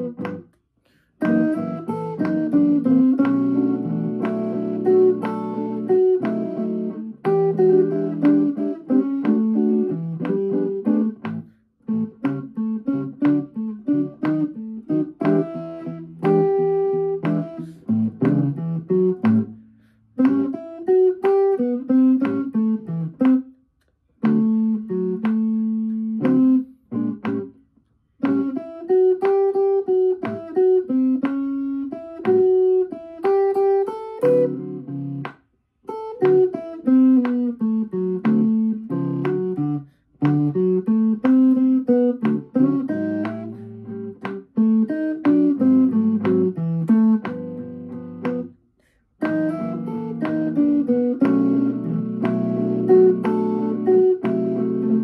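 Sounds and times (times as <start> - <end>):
electric guitar blues playing: 0.0 - 0.5, 1.1 - 23.5, 24.2 - 27.6, 28.2 - 55.0.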